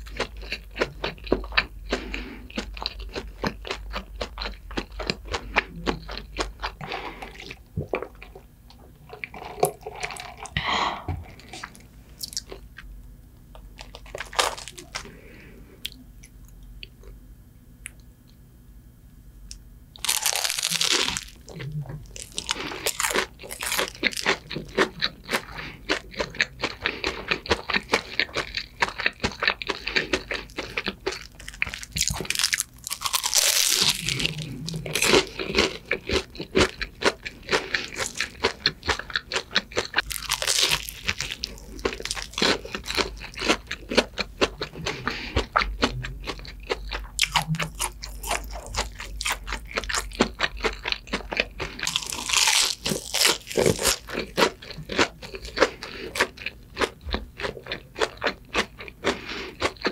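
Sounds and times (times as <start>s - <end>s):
crunching fried food being chewed: 0.0s - 10.6s, 11.2s - 12.9s, 13.5s - 17.2s, 20.0s - 59.9s.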